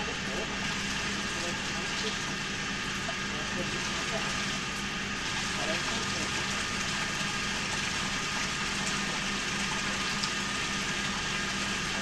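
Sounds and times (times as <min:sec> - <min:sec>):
steady motor hum: 0:00.0 - 0:12.0.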